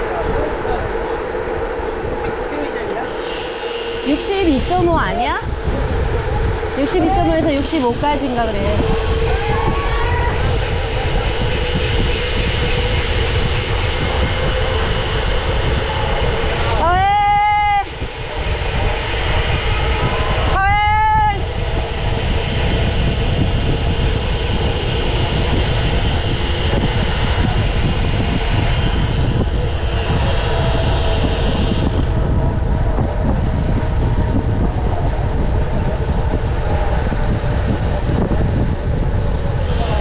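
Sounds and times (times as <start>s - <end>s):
wind buffeting microphone: 0.0s - 40.0s
short whine: 0.4s - 38.5s.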